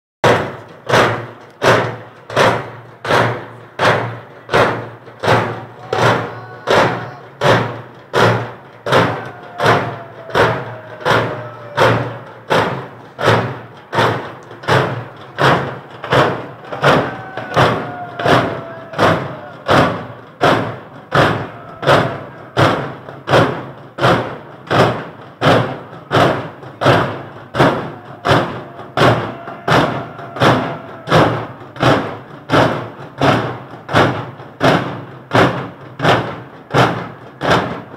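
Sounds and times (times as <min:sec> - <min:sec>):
rhythmic heavy knocks: 0:00.2 - 0:37.9.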